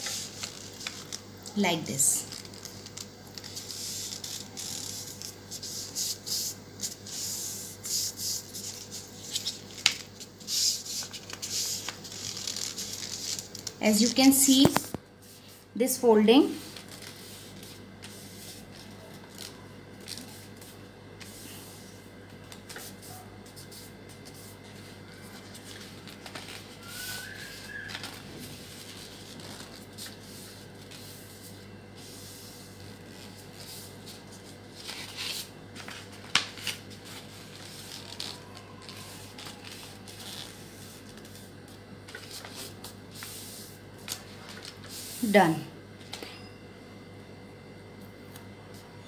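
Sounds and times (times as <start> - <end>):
paper rustling and rubbing: 0.0 - 1.2, 1.8 - 15.7, 16.4 - 45.3
paper crinkles: 0.0 - 1.5, 2.2 - 7.0, 7.9 - 15.0, 16.6 - 21.6, 22.4 - 31.6, 32.6 - 43.4, 44.0 - 45.1
steady low hum: 0.0 - 49.0.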